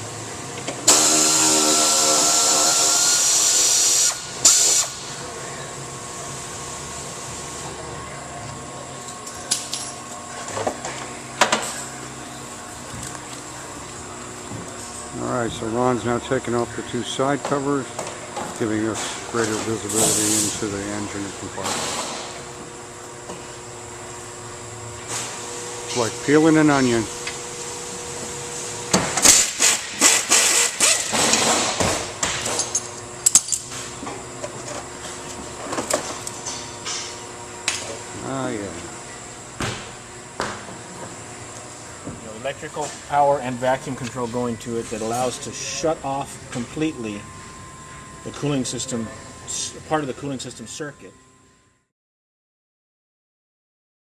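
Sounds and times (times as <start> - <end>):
steady workshop hum: 0.0 - 51.9.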